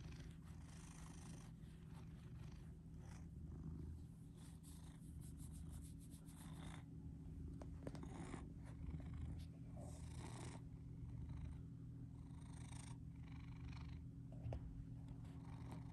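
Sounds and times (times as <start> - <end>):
cat purring: 0.0 - 15.9.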